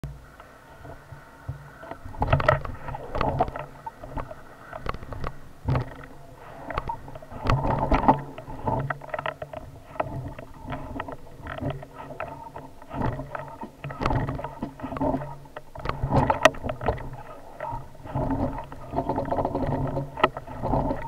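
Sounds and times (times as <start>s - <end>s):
bike knocking and rattling: 1.5s - 21.0s.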